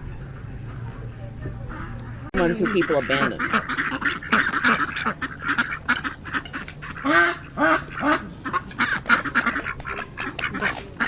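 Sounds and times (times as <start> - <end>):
ducks quacking: 0.0 - 11.0
geese honking: 0.0 - 11.0.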